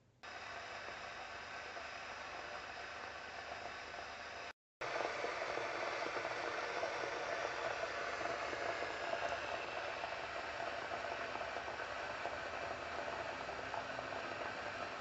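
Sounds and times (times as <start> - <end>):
electric kettle boiling: 0.0 - 15.0.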